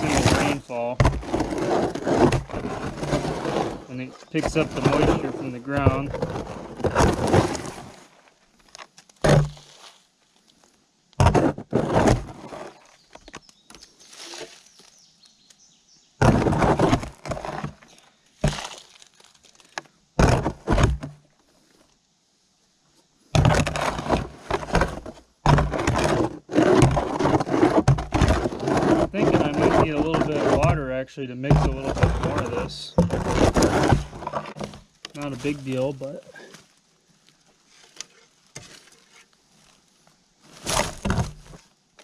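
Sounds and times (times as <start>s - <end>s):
concrete mix scraping and crunching: 0.0s - 15.0s, 16.2s - 21.2s, 23.4s - 41.7s.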